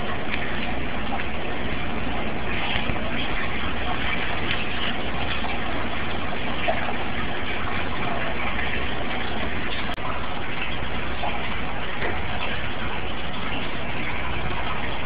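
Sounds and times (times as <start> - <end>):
ceiling fan whirring: 0.0 - 15.0.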